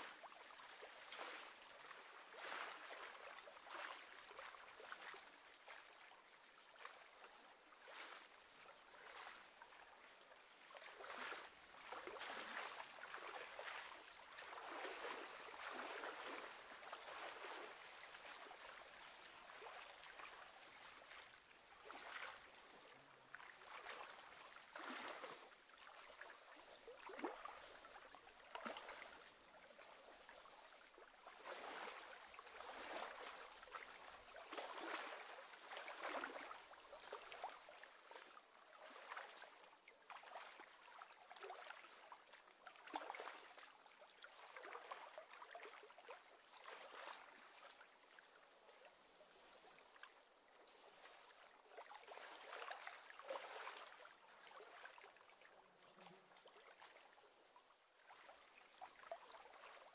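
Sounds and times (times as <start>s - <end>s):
small waves lapping and splashing: 0.0s - 59.9s.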